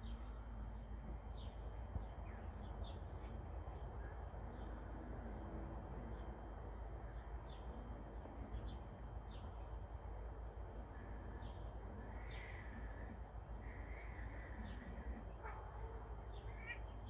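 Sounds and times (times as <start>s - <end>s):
low background rumble: 0.0s - 17.0s
small birds chirping: 0.0s - 17.0s.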